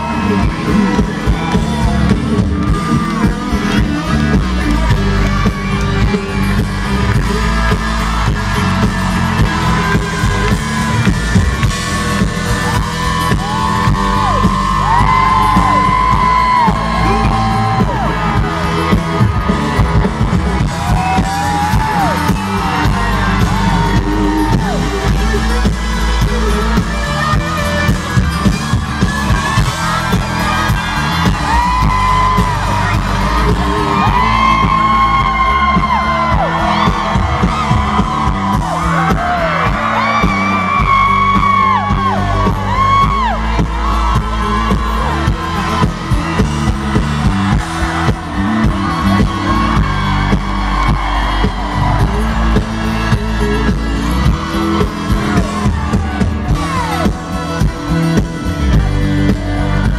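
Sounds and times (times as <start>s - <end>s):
fans whooping and yelling: 0.0s - 59.9s
live country band playing: 0.0s - 59.9s.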